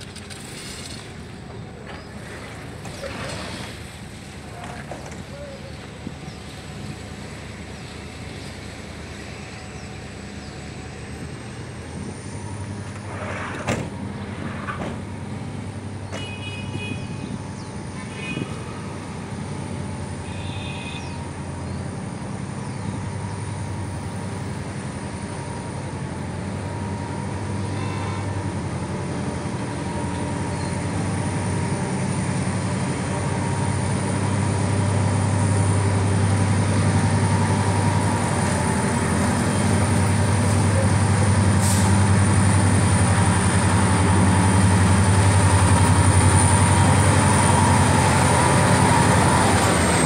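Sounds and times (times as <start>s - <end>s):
diesel locomotive engine rumble: 0.0s - 50.0s.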